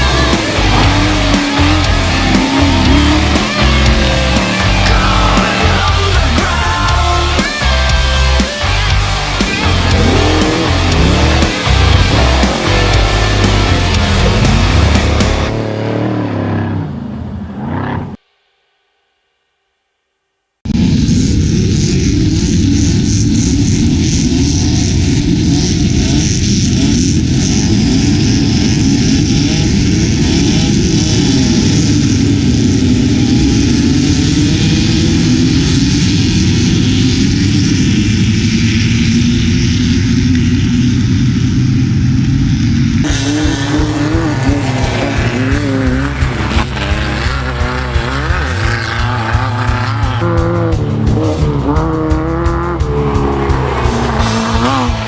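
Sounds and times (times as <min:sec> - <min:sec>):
engine revving on and off: 0:00.0 - 0:18.2, 0:20.7 - 0:55.0
race vehicle engines at high revs: 0:00.0 - 0:18.2, 0:20.7 - 0:55.0.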